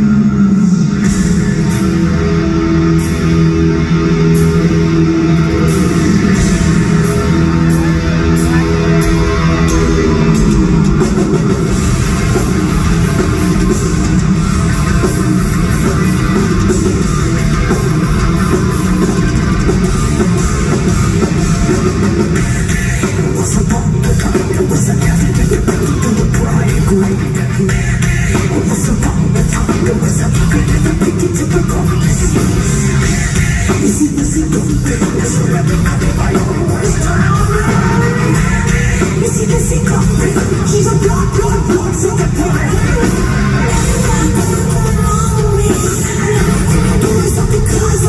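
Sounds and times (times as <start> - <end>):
drum kit: 0.0 - 48.0
electric guitars: 0.0 - 48.0.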